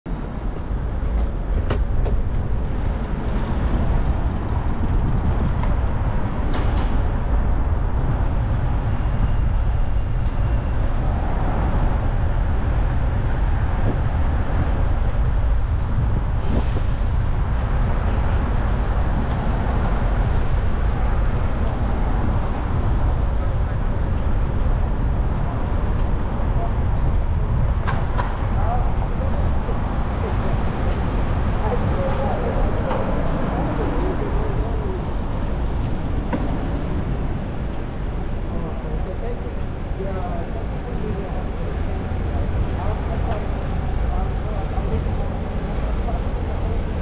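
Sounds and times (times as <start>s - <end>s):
city street traffic: 0.1s - 47.0s
wind noise: 0.1s - 47.0s.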